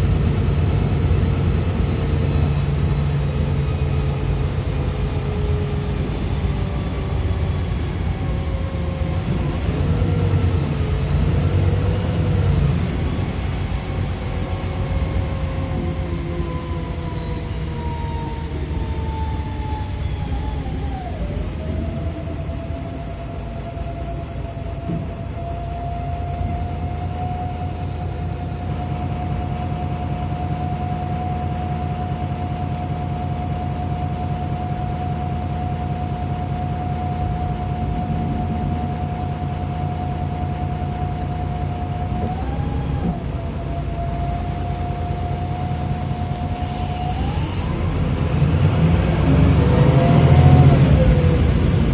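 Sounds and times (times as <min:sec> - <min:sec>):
diesel engine rumble: 0:00.0 - 0:51.9
drivetrain whine: 0:00.0 - 0:51.9.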